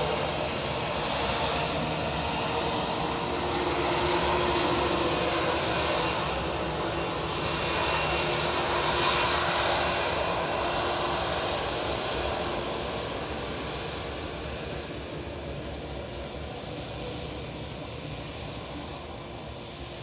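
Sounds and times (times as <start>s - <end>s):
jet airliner passing: 0.0s - 20.0s.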